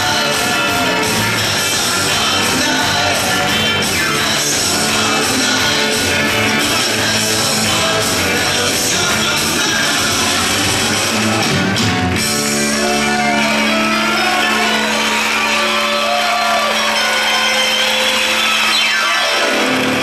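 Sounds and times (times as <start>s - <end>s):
loud dance music: 0.0s - 20.0s.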